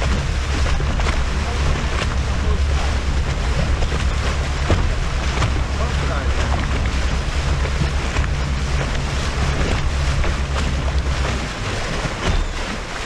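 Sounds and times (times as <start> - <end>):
boat motor humming: 0.0 - 13.0
water slapping against hull: 0.0 - 13.0
wind buffeting microphone: 0.0 - 13.0.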